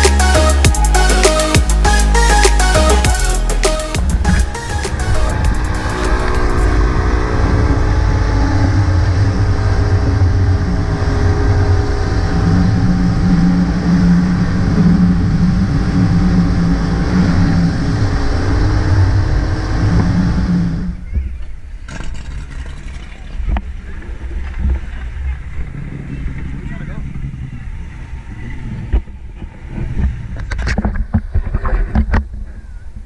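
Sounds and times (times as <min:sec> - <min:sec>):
speedboat engine droning: 0:00.0 - 0:21.1, 0:23.3 - 0:30.4
beach ambience: 0:00.0 - 0:33.0.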